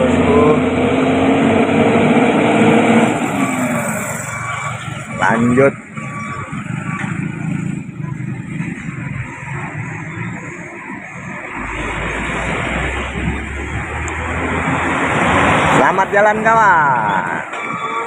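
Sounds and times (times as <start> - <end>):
motorcycle engine: 0.0 - 16.9
heavy trucks engine rumble: 0.0 - 18.0.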